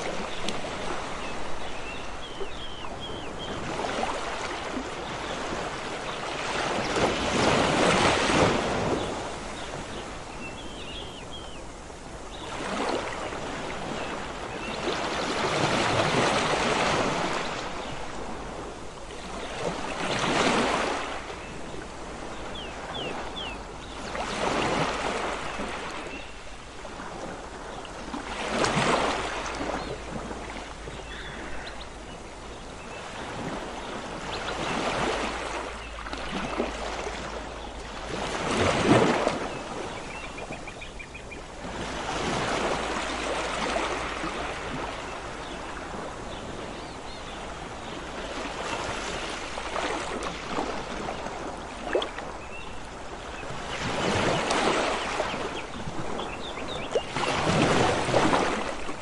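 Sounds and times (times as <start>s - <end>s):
sea waves breaking on beach: 0.0s - 59.0s.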